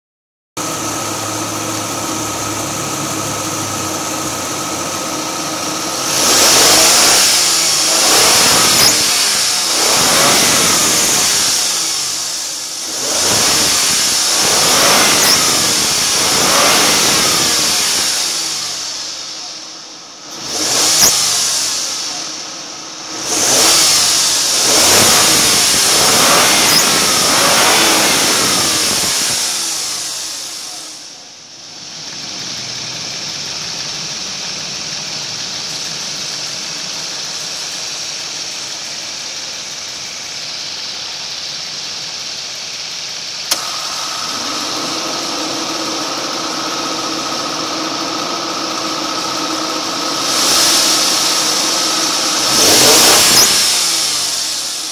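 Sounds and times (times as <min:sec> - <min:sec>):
car engine idling and revving: 0:00.6 - 0:54.9.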